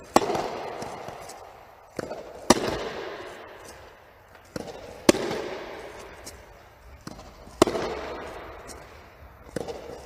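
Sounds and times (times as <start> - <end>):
tennis ball fed pop: 0.0 - 3.8, 4.5 - 10.0
tennis racket hitting ball: 0.0 - 10.0.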